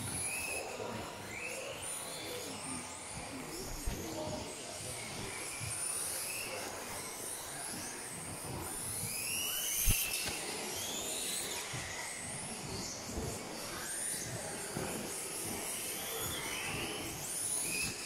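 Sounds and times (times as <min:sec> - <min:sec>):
rc buggy motors whining: 0:00.0 - 0:18.0.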